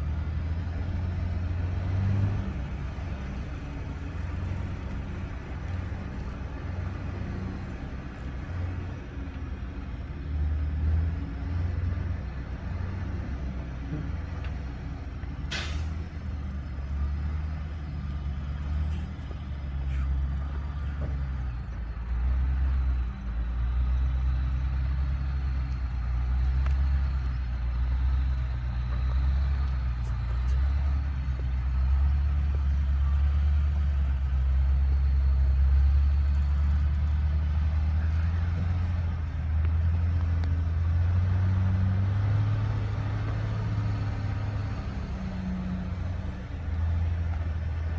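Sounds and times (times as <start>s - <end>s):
truck engine droning: 0.0s - 47.9s.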